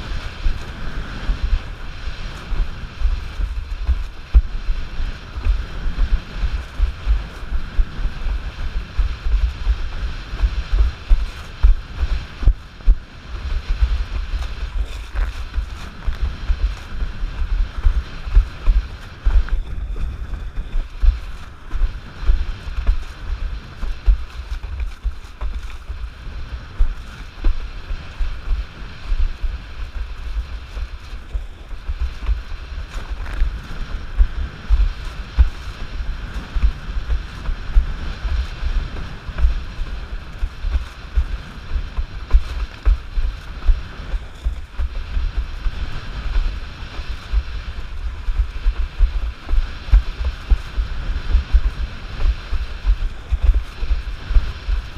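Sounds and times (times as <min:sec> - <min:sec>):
hiss of water and spray: 0:00.0 - 0:54.9
wind buffeting microphone: 0:00.0 - 0:54.9.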